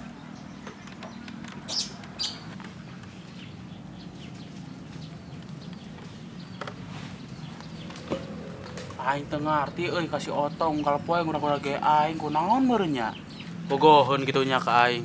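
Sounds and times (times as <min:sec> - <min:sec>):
small bird chirping: 0:00.0 - 0:14.1.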